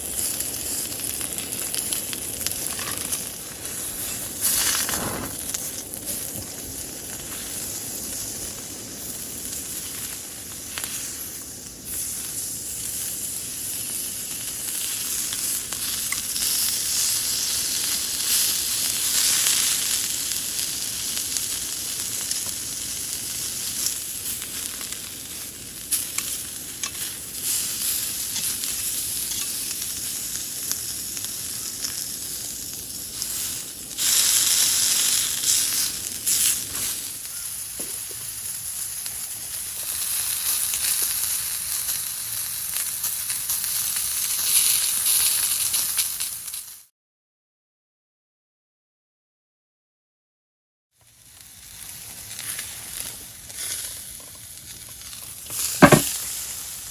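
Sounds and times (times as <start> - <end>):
food sizzling in a pan: 0.0 - 46.9, 51.0 - 56.9.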